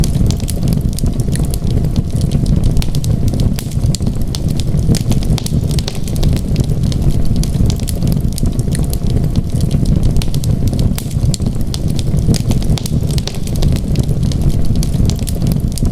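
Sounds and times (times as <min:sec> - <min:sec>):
wood fire crackling: 0:00.0 - 0:15.9.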